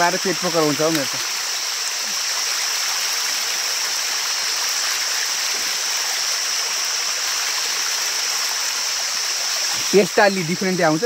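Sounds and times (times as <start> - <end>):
small waterfall rushing: 0.0 - 11.0.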